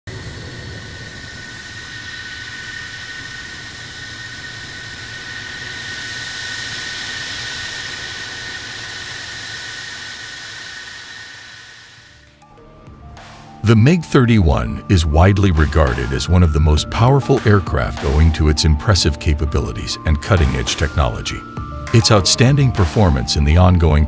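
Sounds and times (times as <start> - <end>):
high jet whine: 0.0 - 24.0
jet engines running: 0.0 - 24.0.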